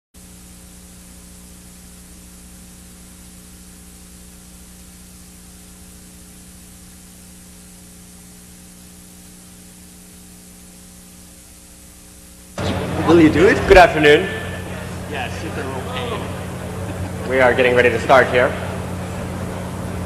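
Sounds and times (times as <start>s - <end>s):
low electrical hum: 0.2s - 20.0s
steady hiss: 0.2s - 20.0s.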